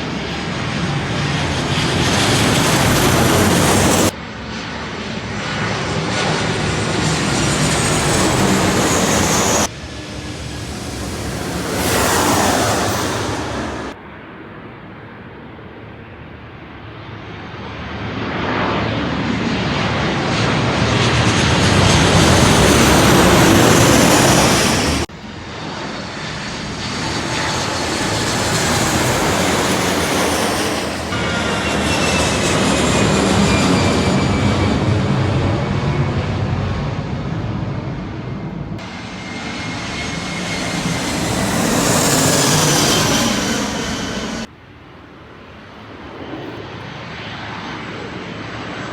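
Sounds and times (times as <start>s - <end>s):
airplane engine roar overhead: 0.0s - 48.9s.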